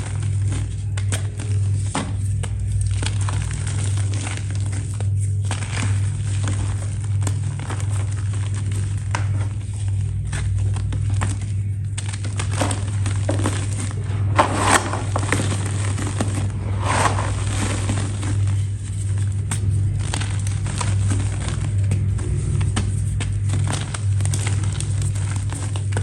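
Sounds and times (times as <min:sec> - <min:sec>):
brittle material crunching: 0:00.0 - 0:26.0
steady low hum: 0:00.0 - 0:26.0.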